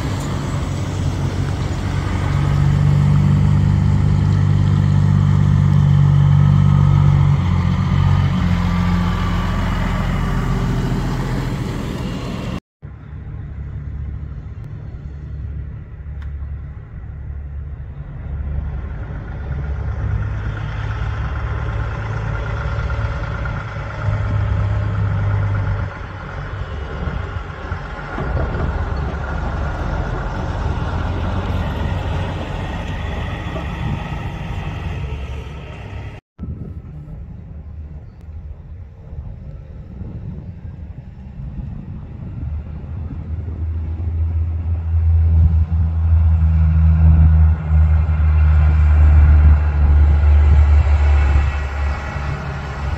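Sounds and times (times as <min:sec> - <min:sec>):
diesel trucks driving past: 0:00.0 - 0:52.9.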